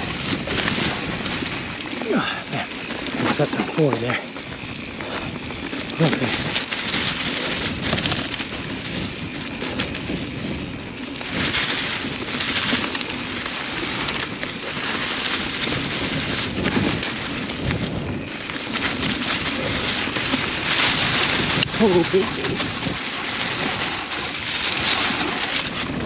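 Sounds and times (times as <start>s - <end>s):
bike rattles and clicks: 0.0s - 26.0s
bike tyres crunching on trail: 0.0s - 26.0s.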